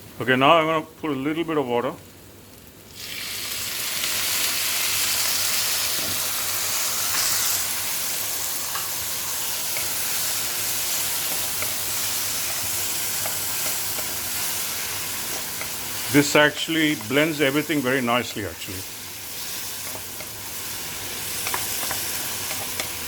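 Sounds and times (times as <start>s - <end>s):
water sizzling in hot wok: 2.8s - 23.0s.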